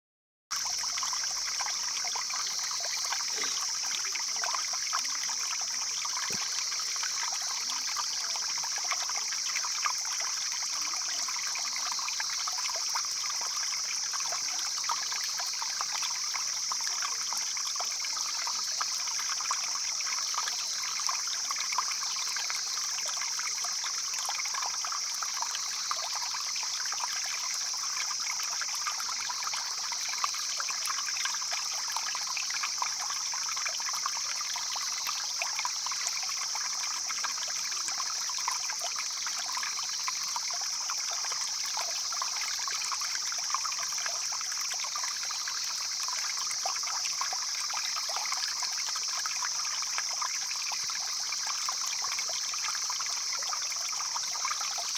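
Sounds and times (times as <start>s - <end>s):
stream babbling: 0.5s - 54.9s.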